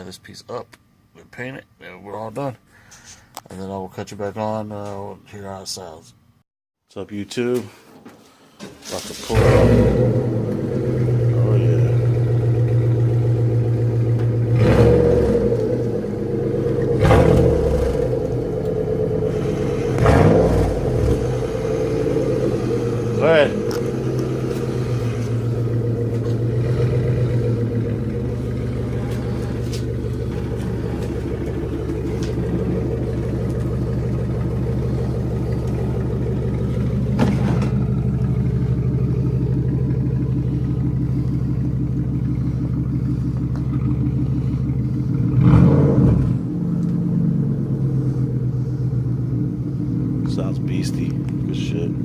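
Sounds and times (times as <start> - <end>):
engine with loud exhaust: 9.0 - 52.0.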